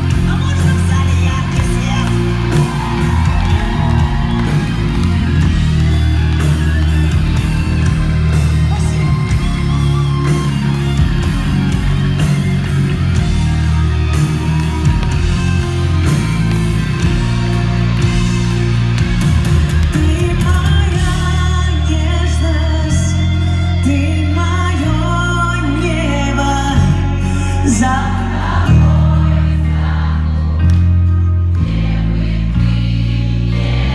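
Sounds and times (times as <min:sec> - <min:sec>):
electric guitar: 0:00.0 - 0:33.9
heavy bass: 0:00.0 - 0:33.9
live rock band: 0:00.0 - 0:33.9.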